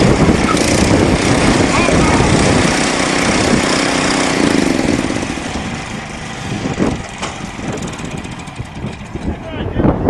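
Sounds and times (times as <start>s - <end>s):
garden tractor engines running: 0.0s - 10.0s.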